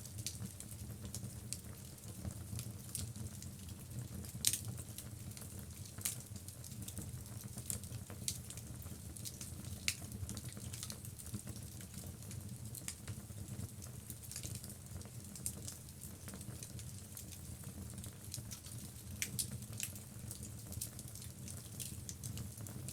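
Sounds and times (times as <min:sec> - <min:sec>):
wood fire crackling and popping: 0:00.2 - 0:22.9.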